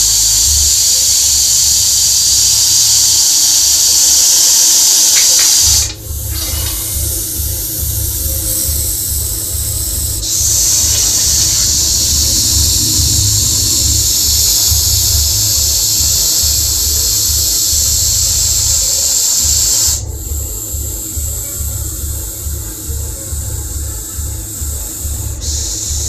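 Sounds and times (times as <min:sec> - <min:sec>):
snake hissing: 0:00.0 - 0:26.0.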